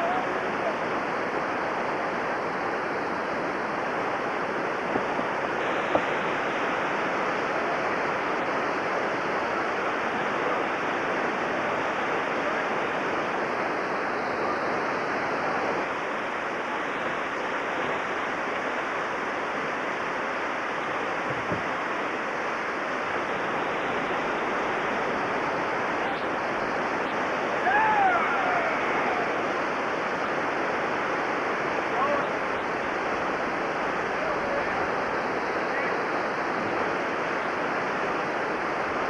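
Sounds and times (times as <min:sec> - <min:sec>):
river rapids rushing: 0:00.0 - 0:39.0.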